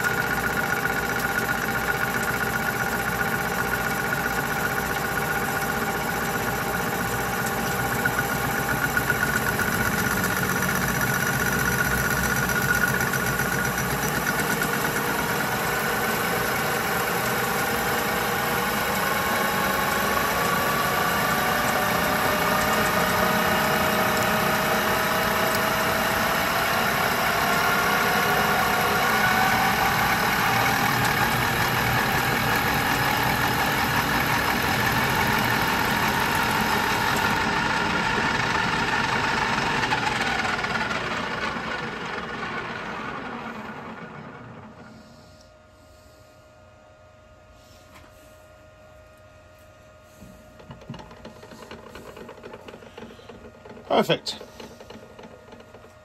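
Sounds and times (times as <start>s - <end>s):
metal lathe running: 0.0s - 44.8s
whining cutting tone: 0.0s - 45.0s.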